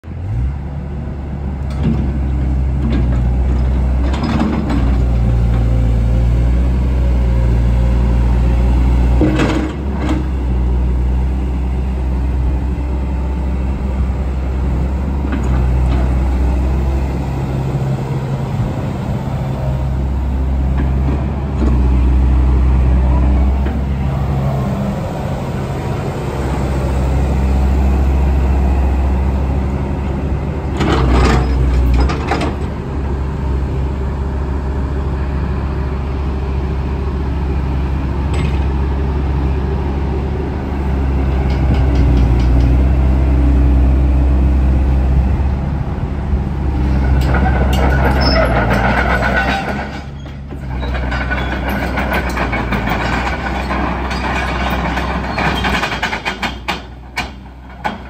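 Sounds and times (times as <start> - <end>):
excavator diesel engine humming: 0.1 - 58.0.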